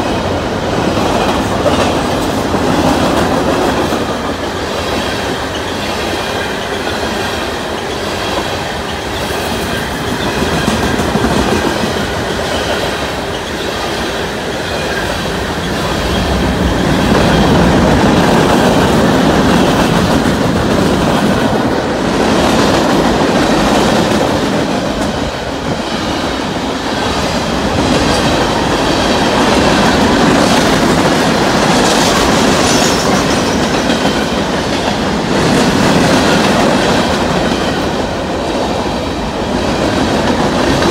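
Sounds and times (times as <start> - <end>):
freight train rumble: 0.0 - 40.9
train wheels clacking over rail joints: 0.8 - 38.2.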